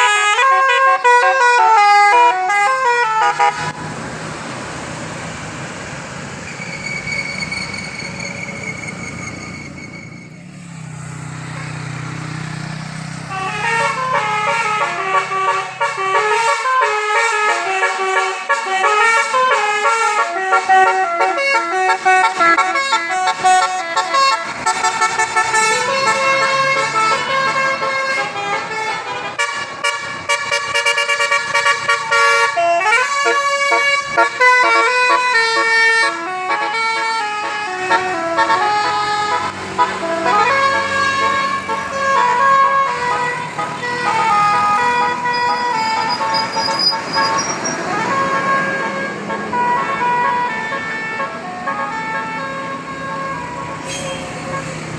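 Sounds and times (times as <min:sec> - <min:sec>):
musical bus air horns: 0:00.0 - 0:03.8, 0:13.2 - 0:54.9.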